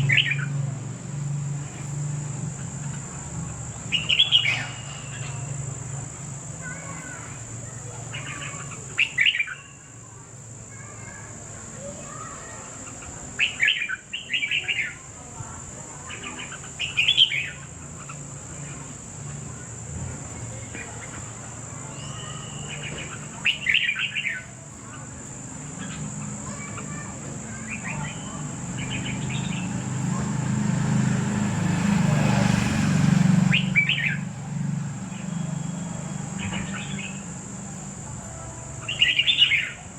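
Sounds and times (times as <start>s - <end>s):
bird chirping: 0.0s - 0.7s, 1.6s - 10.0s, 11.8s - 31.2s, 31.8s - 34.4s, 35.0s - 39.9s.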